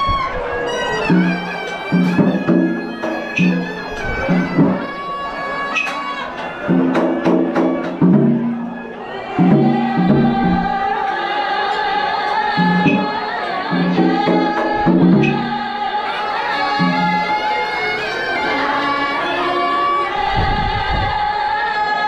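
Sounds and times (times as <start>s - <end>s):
ceremonial instruments and singing: 0.0s - 22.0s.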